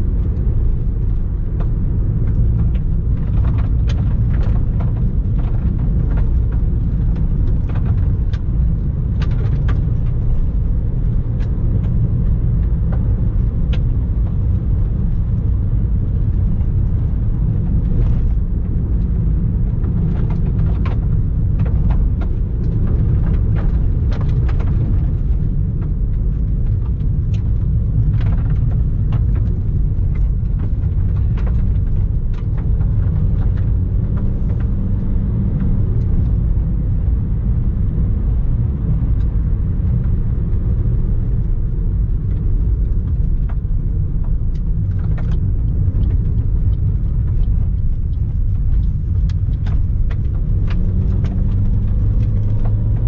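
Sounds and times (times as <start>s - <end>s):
car tyres rumbling on gravel: 0.0s - 53.0s
gravel ticking against car: 0.0s - 53.0s.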